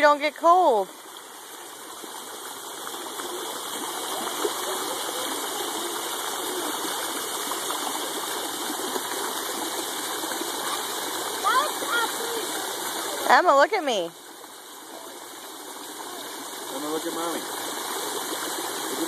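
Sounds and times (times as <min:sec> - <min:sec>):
water jets spraying and splashing: 0:00.0 - 0:19.0.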